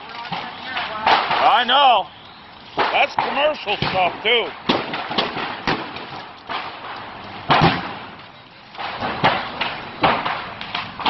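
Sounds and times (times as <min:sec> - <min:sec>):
fire burning: 0:00.0 - 0:11.0
fireworks bangs: 0:00.0 - 0:11.0.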